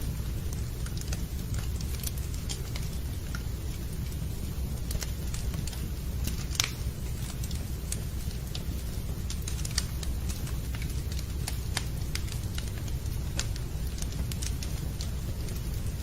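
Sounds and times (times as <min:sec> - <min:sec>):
low rumble of burning: 0:00.0 - 0:16.0
wood fire crackling and popping: 0:00.0 - 0:16.0.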